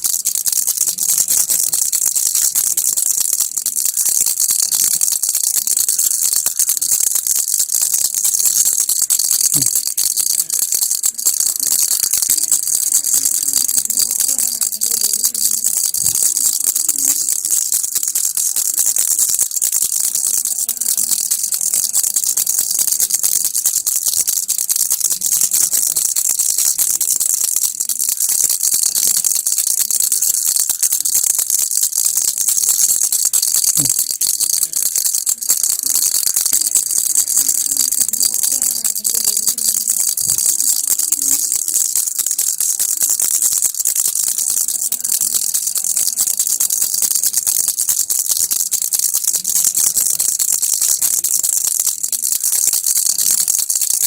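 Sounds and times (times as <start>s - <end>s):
baby rattle shaking: 0.0s - 54.0s.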